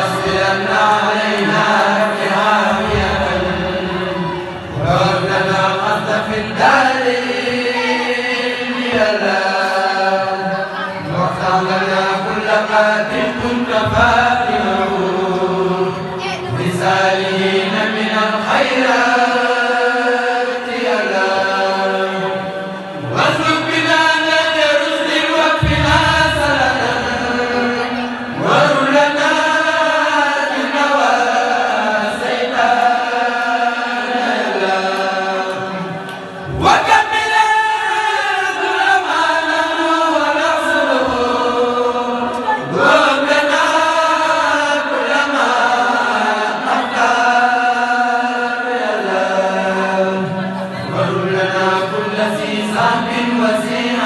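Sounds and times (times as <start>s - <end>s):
men chanting together: 0.0s - 54.0s.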